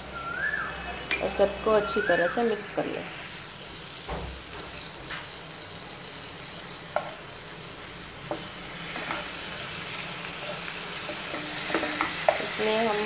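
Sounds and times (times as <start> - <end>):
masala sizzling in a pan: 0.0 - 13.0.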